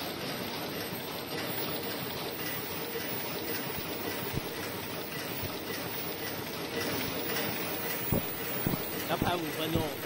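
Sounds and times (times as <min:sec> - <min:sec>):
machine hissing and humming: 0:01.2 - 0:10.0.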